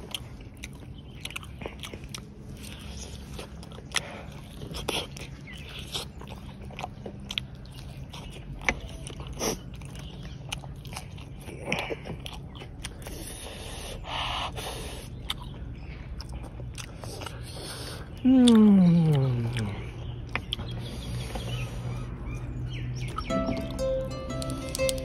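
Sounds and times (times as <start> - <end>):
biting and chewing food: 0.0 - 25.0.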